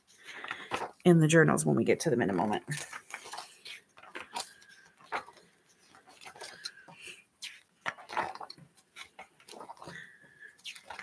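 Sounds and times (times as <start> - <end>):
book pages turning: 0.0 - 1.0, 2.7 - 11.0.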